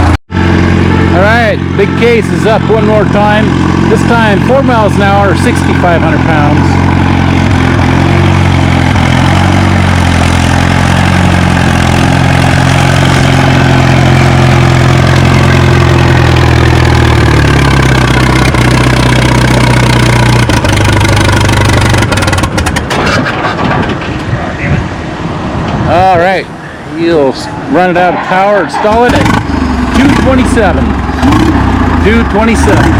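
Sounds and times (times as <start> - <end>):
tractor engine under load: 0.0 - 25.8, 27.7 - 32.9.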